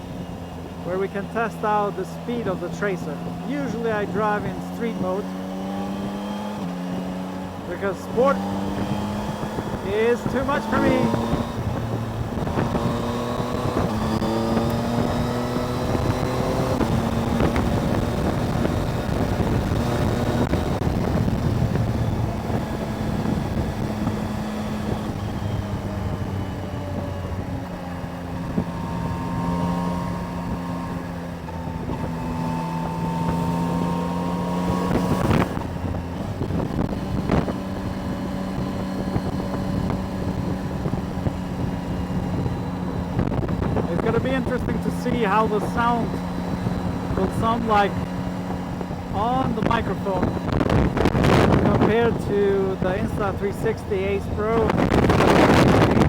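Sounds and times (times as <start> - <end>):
motorcycle engine accelerating: 0.0 - 56.0
wind buffeting microphone: 0.0 - 56.0.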